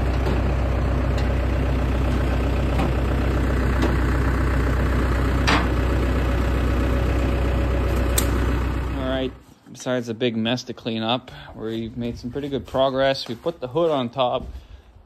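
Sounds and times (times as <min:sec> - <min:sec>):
tractor engine idling: 0:00.0 - 0:14.8.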